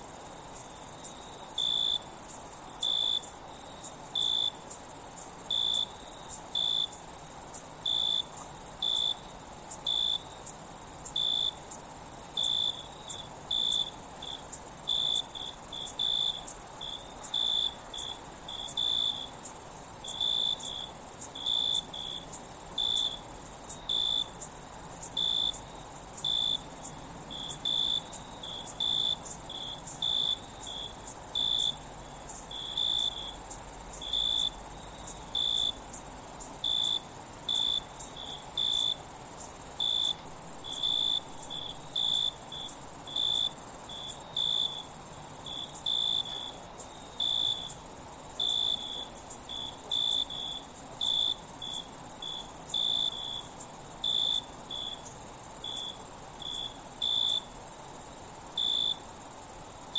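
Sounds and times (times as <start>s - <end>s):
crickets chirping: 0.0s - 59.9s
insect trill: 0.0s - 59.9s.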